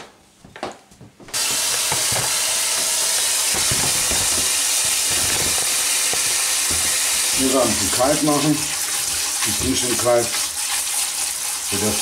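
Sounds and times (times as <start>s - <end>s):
tap water splashing into bowl: 1.5s - 12.0s.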